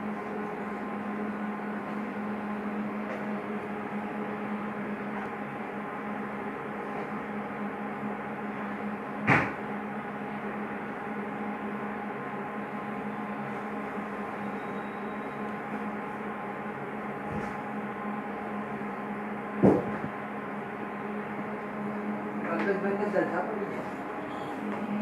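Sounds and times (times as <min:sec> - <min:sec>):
humidifier hum and fan rush: 0:00.0 - 0:25.0.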